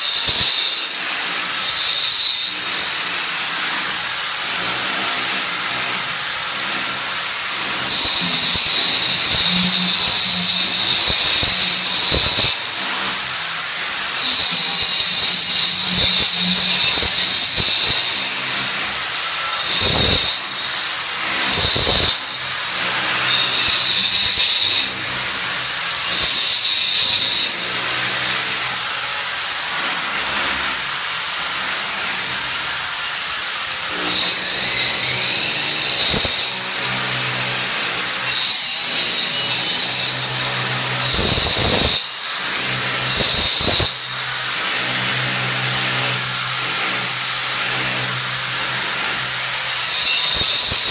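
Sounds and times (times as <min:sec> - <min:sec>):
blades grinding into masonry: 0:00.0 - 0:50.9
wall-chasing saw motor running: 0:00.0 - 0:50.9.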